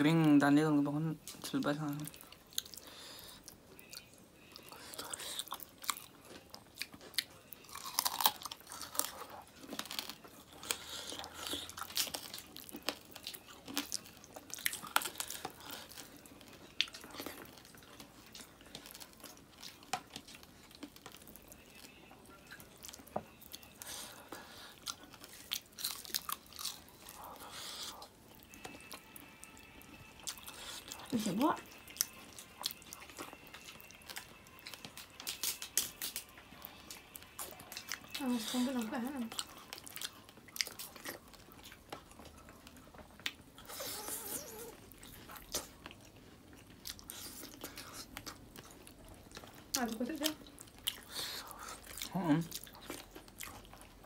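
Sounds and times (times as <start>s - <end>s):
person chewing: 1.2s - 38.2s, 39.3s - 54.0s.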